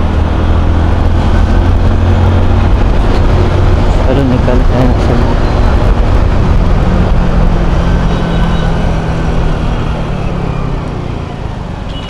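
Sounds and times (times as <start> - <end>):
wind noise on microphone: 0.0 - 10.8
motorcycle engine hum: 0.0 - 12.0.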